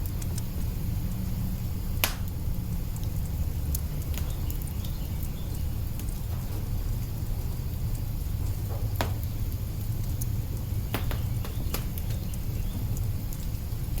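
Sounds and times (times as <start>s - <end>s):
log fire crackling: 0.0s - 14.0s
fire pops and snaps: 1.8s - 14.0s.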